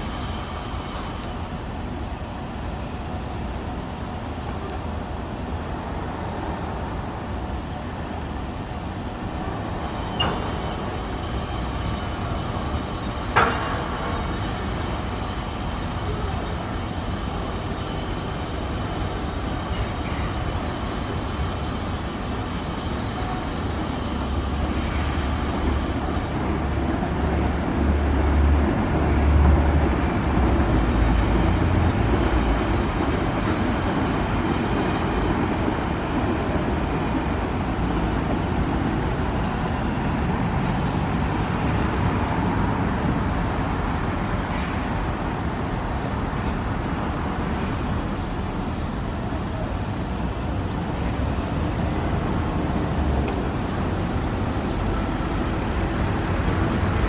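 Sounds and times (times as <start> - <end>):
rail yard and city background: 0.0 - 57.0
train rumble approaching: 0.0 - 57.0.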